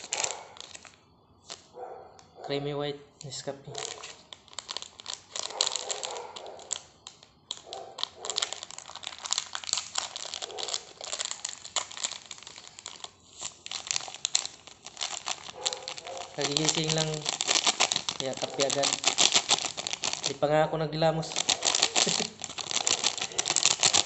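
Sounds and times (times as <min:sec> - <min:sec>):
plastic sachet crinkling: 0:00.0 - 0:01.7, 0:03.2 - 0:24.0
sachet tearing open: 0:00.0 - 0:01.7, 0:03.2 - 0:20.5, 0:21.2 - 0:24.0.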